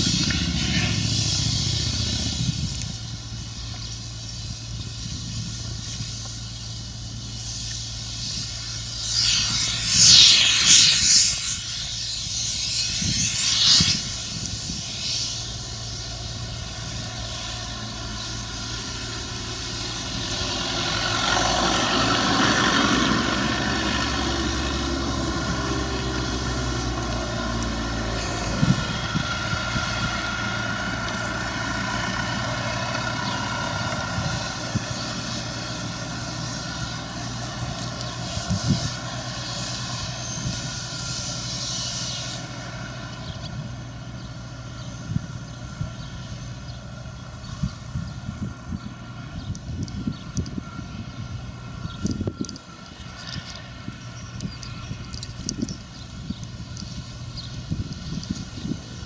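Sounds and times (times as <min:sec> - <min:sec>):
loud hissing bursts: 0:00.0 - 0:49.2
farm machinery engine running: 0:00.0 - 0:59.0.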